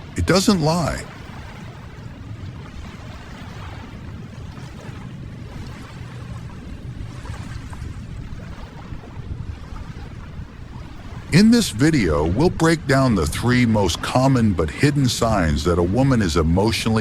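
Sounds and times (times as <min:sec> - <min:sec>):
ocean waves: 0:00.0 - 0:17.0.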